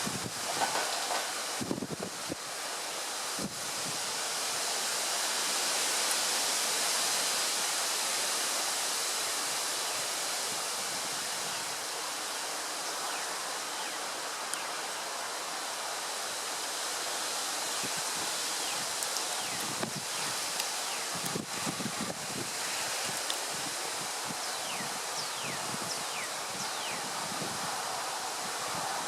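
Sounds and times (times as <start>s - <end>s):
wind rushing through foliage: 0.0s - 29.0s.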